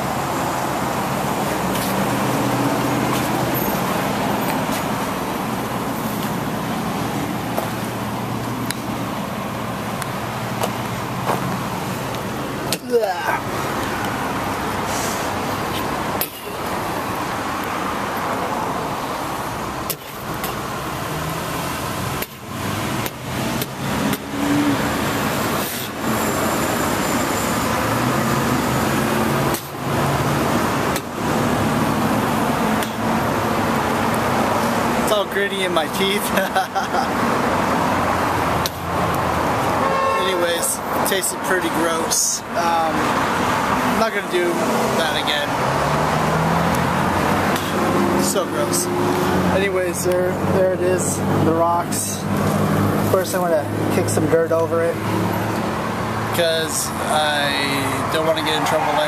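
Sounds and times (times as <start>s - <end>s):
road traffic: 0.0s - 59.0s.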